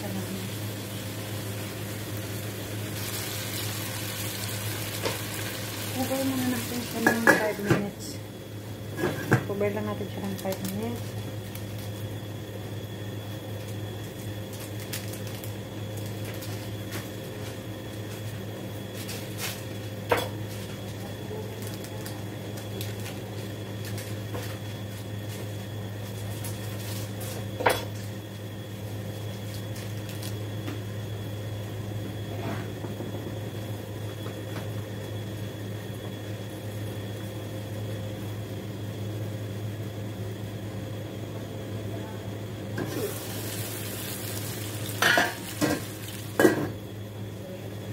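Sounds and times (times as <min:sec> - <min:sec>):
low hum with faint hiss: 0:00.0 - 0:47.9.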